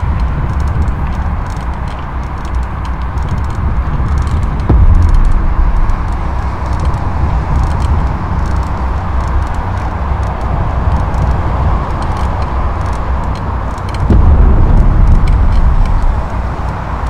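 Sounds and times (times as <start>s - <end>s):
bicycle tyres rolling on pavement: 0.0s - 17.0s
distant road traffic: 0.0s - 17.0s
faint ticks: 0.0s - 17.0s
wind on microphone: 0.0s - 17.0s.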